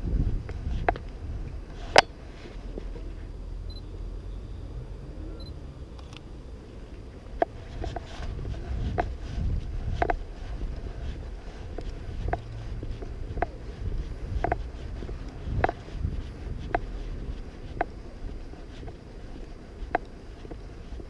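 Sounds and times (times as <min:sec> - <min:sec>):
street background noise: 0:00.0 - 0:21.0.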